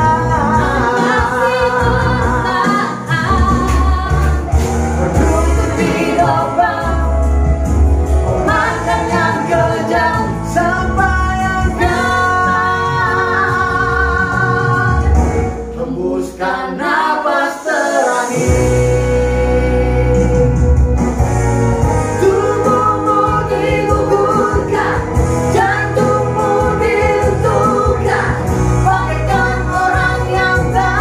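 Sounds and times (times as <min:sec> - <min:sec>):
man and woman singing duet: 0:00.0 - 0:07.7, 0:08.3 - 0:20.8, 0:22.0 - 0:31.0
backing music with strong bass: 0:00.0 - 0:31.0.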